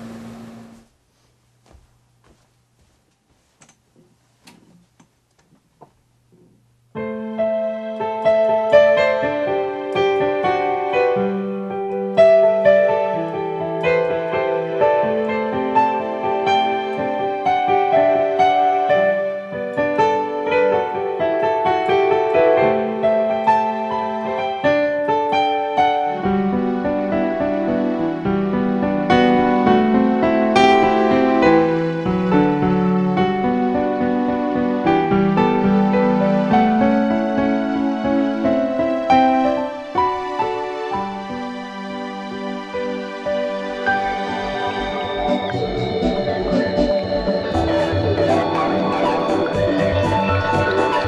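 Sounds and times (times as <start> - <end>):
piano music: 6.9 - 51.0.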